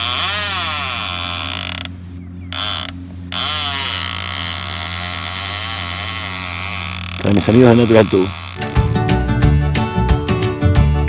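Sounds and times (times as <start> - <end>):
fishing reel whirring and clicking: 0.0 - 9.1
steady low hum: 0.0 - 9.6.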